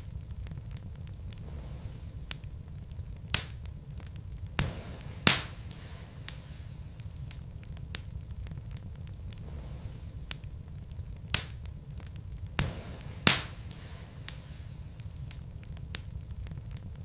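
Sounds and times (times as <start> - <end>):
wood logs crackling in fireplace: 0.0 - 17.0.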